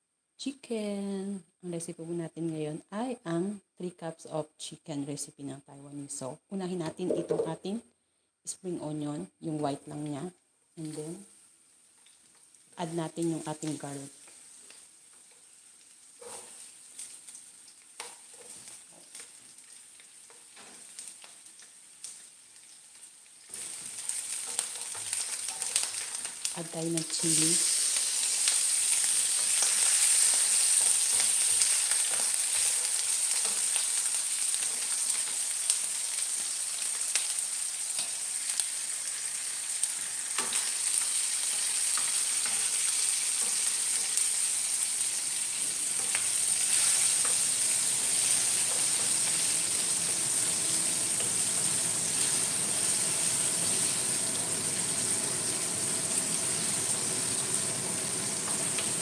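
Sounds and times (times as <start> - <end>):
food sizzling in hot oil: 10.8 - 59.0.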